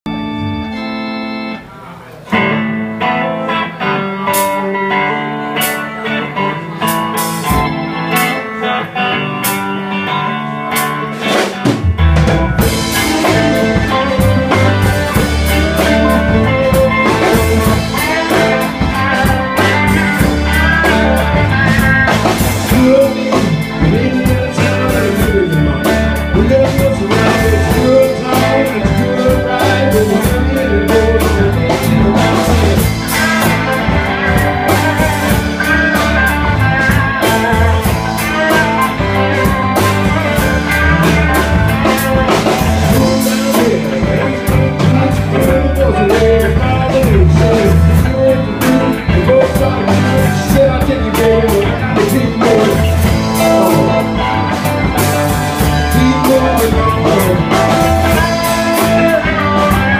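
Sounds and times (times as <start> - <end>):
live band music: 0.1 - 59.9
drums and bass: 2.2 - 59.9.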